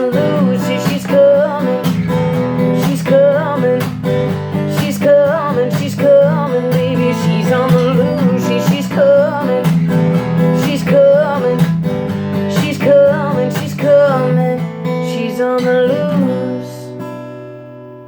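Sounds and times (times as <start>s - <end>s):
wordless vocal melody: 0.0s - 17.0s
strummed acoustic guitar: 0.0s - 18.0s.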